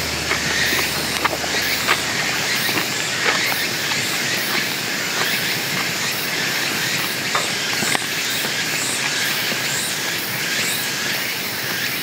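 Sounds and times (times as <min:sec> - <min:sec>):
pot simmering with sizzling hiss: 0:00.0 - 0:12.0.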